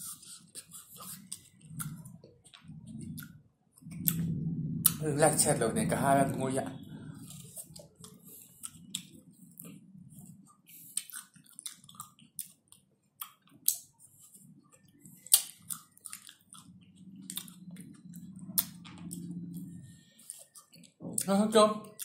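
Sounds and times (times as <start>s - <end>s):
wet mouth eating sounds: 0.0s - 5.4s, 6.8s - 21.3s.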